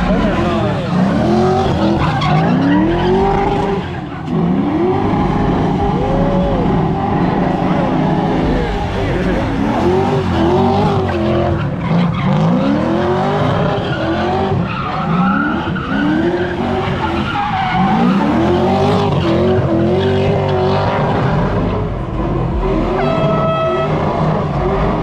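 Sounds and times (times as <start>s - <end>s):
car engine revving: 0.0s - 25.0s
tires screeching: 0.0s - 25.0s.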